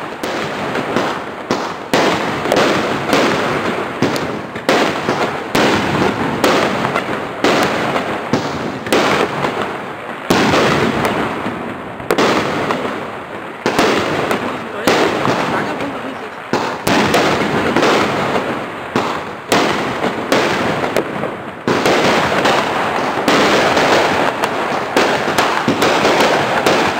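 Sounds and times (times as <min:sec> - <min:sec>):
firework battery bangs: 0:00.0 - 0:26.9.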